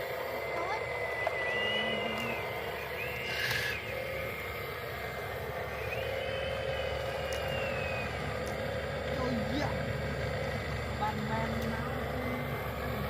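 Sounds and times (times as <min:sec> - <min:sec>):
high motor whine: 0:00.0 - 0:13.0
small electric motors humming: 0:00.0 - 0:13.0.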